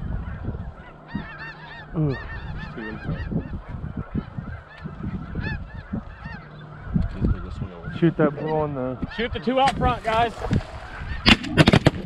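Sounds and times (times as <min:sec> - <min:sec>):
geese calling: 0:00.0 - 0:12.0.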